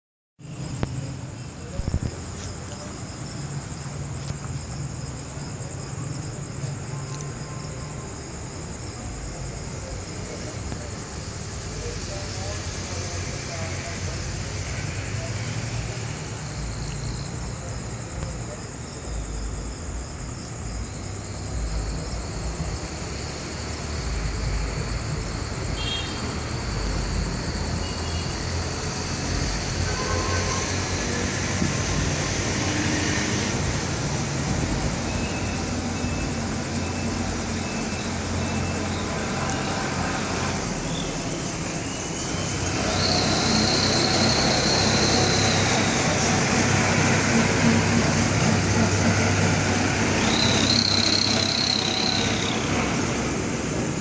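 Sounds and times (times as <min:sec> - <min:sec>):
crickets chirping: 0:00.4 - 0:54.0
distant traffic rumble: 0:00.4 - 0:54.0.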